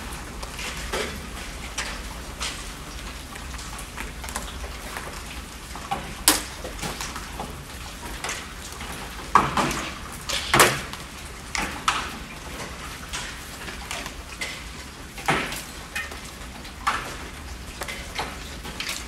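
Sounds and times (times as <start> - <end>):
light rain patter: 0.0 - 19.0
sharp raindrops: 0.0 - 19.0.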